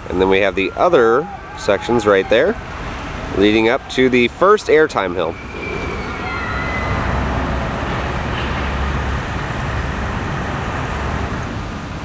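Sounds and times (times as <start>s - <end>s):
passing vehicles hissing: 0.0s - 12.0s.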